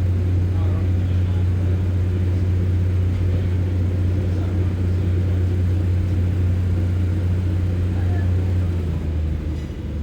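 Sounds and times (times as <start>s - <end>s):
diesel railcar engine droning: 0.0s - 10.0s.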